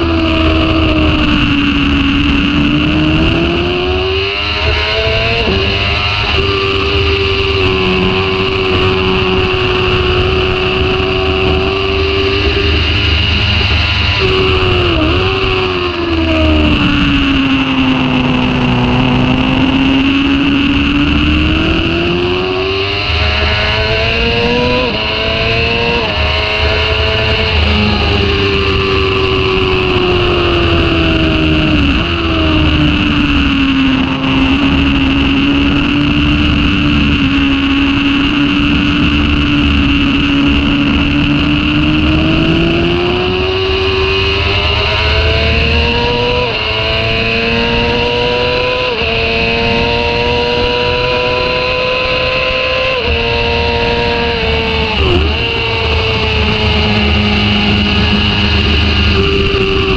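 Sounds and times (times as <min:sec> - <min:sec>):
motorcycle engine at speed: 0:00.0 - 0:59.9
wind noise: 0:00.0 - 0:59.9.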